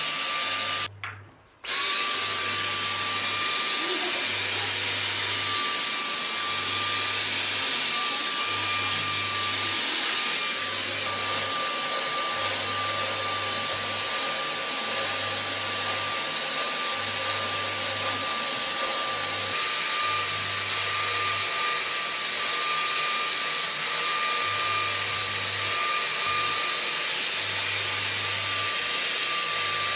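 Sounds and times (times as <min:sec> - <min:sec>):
vacuum cleaner running: 0:00.0 - 0:00.9, 0:01.6 - 0:29.9.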